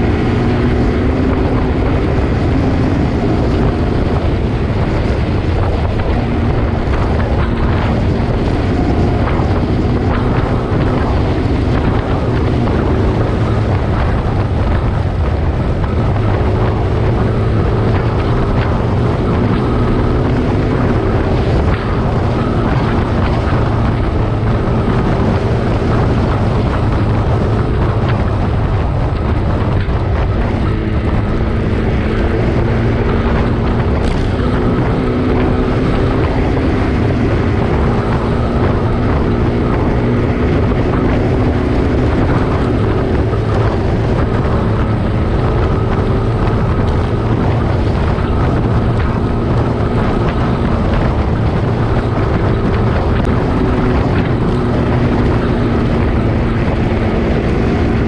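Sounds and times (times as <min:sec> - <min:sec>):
vehicle engine running: 0:00.0 - 0:58.0
wind buffeting microphone: 0:00.0 - 0:58.0.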